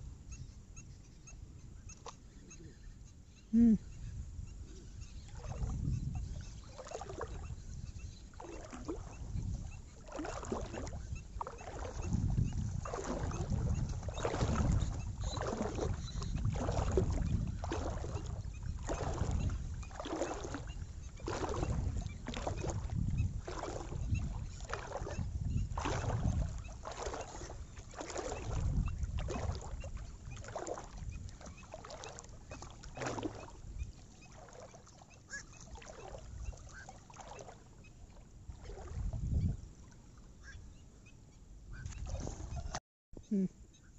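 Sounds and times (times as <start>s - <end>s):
wading steps through water: 5.1s - 40.8s, 41.7s - 42.8s.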